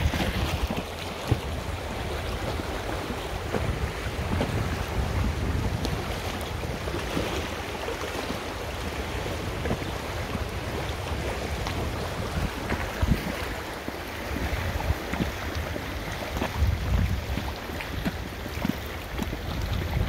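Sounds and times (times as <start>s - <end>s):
river water rushing: 0.0s - 20.0s
water splashes: 0.0s - 20.0s
wind buffeting microphone: 0.0s - 20.0s.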